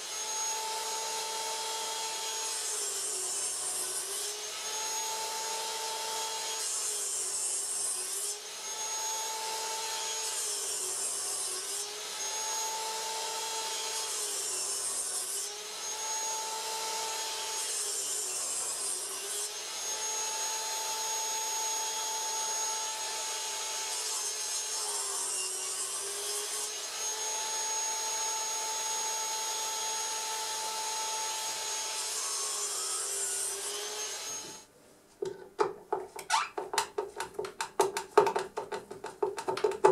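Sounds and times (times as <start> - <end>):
miter saw cutting wood: 0.0 - 34.7.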